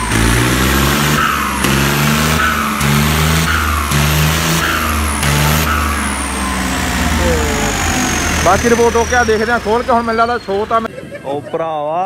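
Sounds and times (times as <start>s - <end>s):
diesel tractor engine revving: 0.0s - 10.9s
turbocharger whistling: 0.0s - 11.0s.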